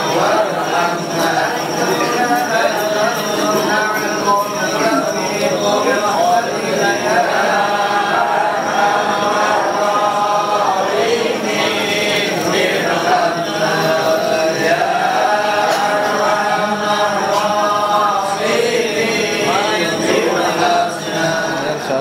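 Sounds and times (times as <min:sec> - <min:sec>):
crowd chanting prayers: 0:00.0 - 0:22.0.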